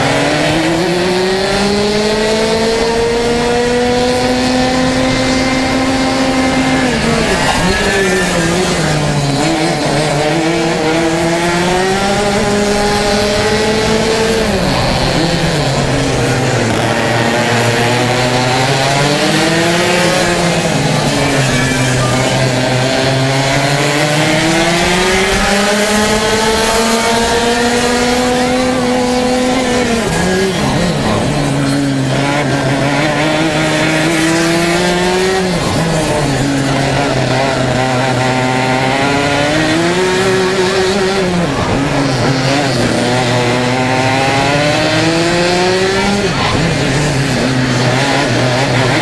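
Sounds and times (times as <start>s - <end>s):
racing kart engine revving: 0.0s - 49.0s.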